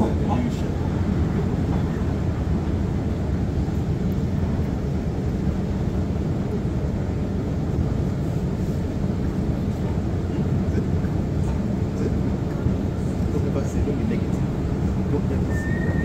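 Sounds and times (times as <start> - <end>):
underground railway rumble: 0.0 - 16.0.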